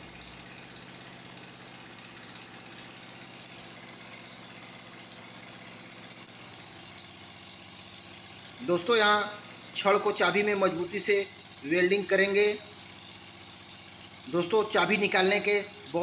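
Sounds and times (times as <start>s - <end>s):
arc welder humming: 0.0s - 16.0s.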